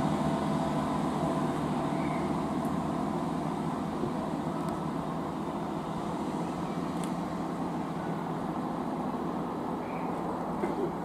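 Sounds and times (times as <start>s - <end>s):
diesel train running: 0.0s - 11.0s.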